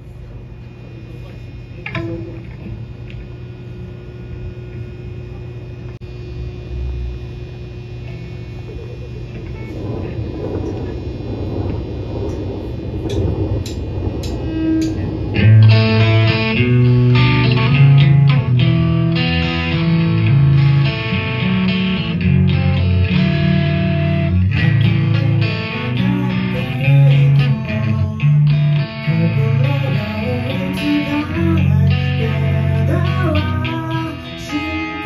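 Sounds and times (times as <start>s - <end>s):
guitar and cymbal wash: 0.0s - 35.0s.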